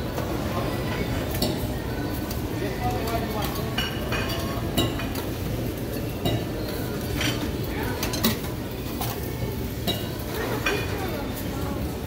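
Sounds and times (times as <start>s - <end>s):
metal tongs clinking on pans: 1.0s - 11.2s.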